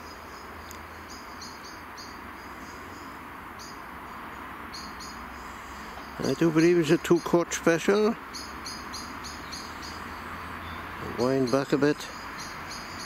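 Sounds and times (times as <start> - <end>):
small bird chirping: 0.0 - 7.5, 8.3 - 13.0.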